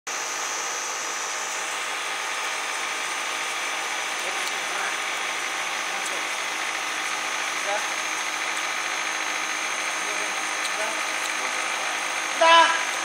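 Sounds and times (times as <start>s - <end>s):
cutter hissing on wood: 0.1s - 13.0s
high-pitched whine: 0.1s - 13.0s
lathe spindle whirring: 0.1s - 13.0s.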